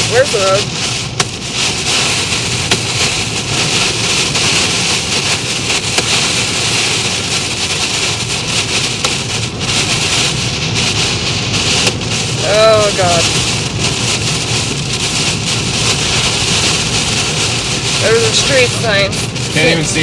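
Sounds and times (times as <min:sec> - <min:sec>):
heavy rain on a car: 0:00.0 - 0:20.0.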